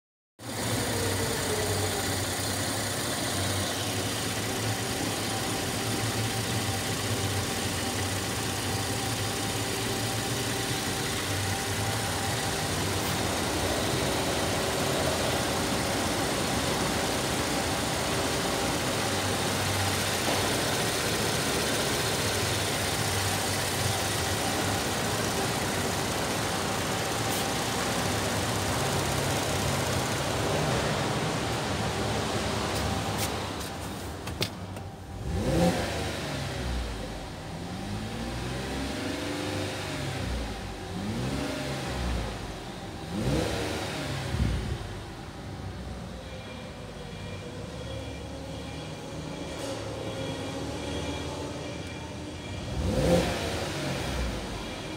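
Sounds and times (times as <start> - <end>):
car engine idling: 0.4 - 54.9.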